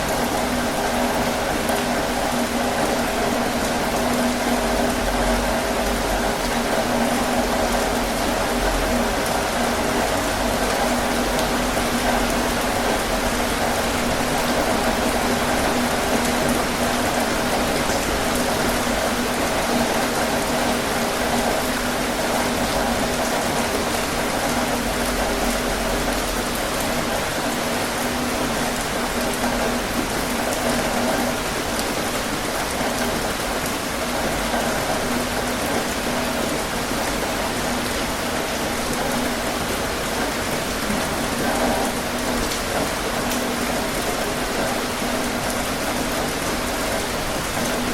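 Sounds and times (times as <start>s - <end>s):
heavy rain on a tin roof: 0.0s - 47.9s.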